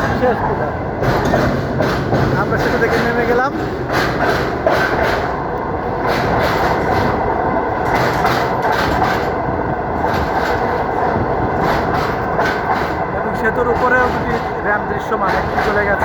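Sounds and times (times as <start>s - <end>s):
train clacking over rail joints: 0.0s - 16.0s
train wheels rumbling on rails: 0.0s - 16.0s.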